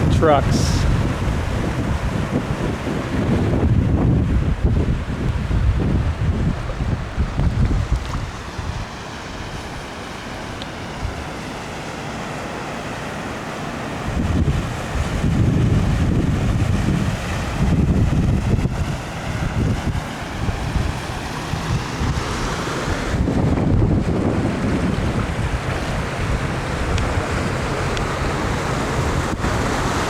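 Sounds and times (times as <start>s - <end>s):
wind gusting across microphone: 0.0s - 12.0s, 13.8s - 30.0s
steady rushing noise: 0.0s - 30.0s.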